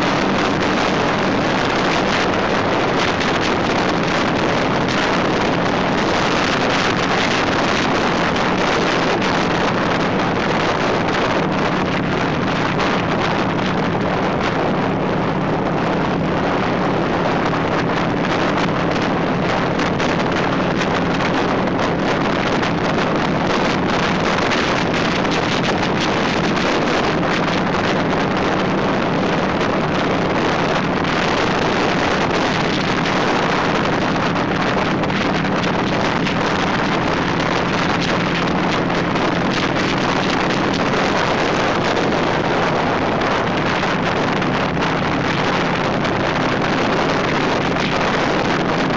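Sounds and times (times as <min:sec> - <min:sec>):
motorcycle engine drone: 0:00.0 - 0:48.9
wind rushing over microphone: 0:00.0 - 0:48.9.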